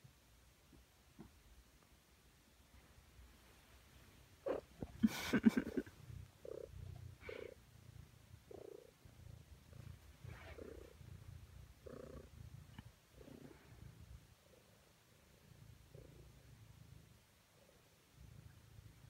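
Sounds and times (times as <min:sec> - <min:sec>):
cat purring: 0:02.6 - 0:19.0.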